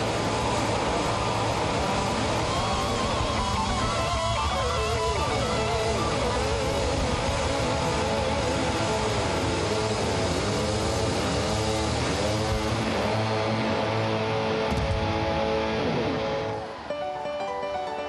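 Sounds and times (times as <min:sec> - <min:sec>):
electric guitar pitch swoops: 0:00.0 - 0:18.0
rock band playing live: 0:00.0 - 0:18.0.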